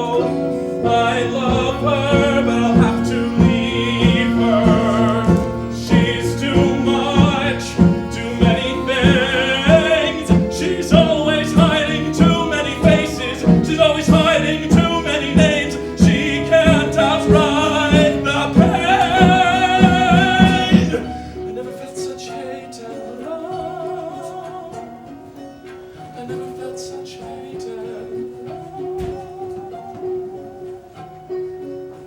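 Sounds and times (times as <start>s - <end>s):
person singing with vibrato: 0.0s - 31.7s
instrumental accompaniment: 0.0s - 32.0s.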